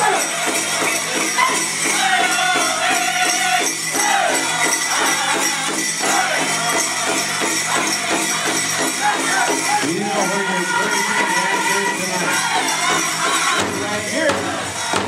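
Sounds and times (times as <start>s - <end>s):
group singing: 0.0s - 15.0s
jingling bells: 0.0s - 15.0s
steady drumbeat: 0.0s - 15.0s.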